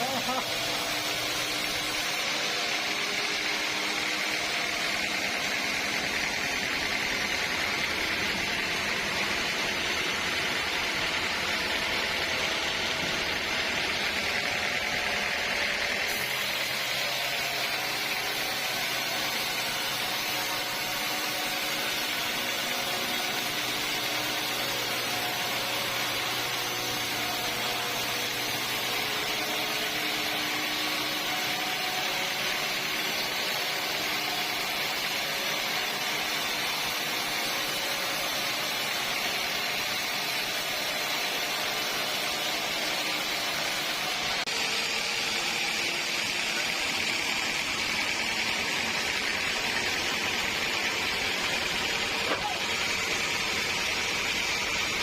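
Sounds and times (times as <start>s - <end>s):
sawmill saw cutting timber: 0.0s - 55.0s.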